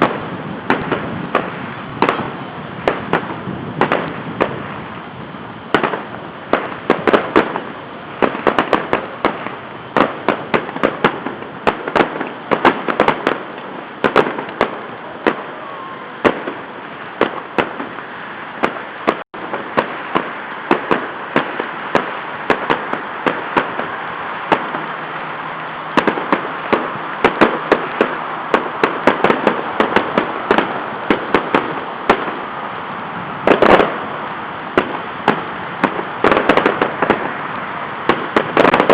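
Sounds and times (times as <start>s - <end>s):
fireworks bangs and pops: 0.0s - 38.9s
steady background hiss: 0.0s - 38.9s.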